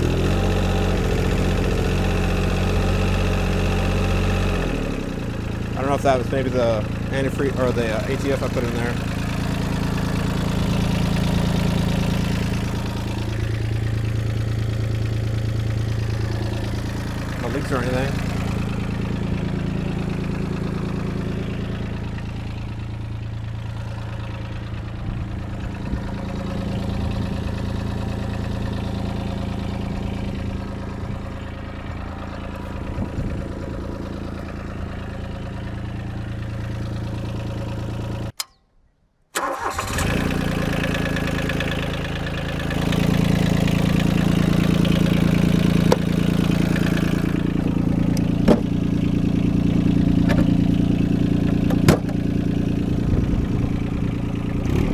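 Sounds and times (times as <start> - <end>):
diesel engine idling: 0.0 - 38.4, 39.4 - 54.9.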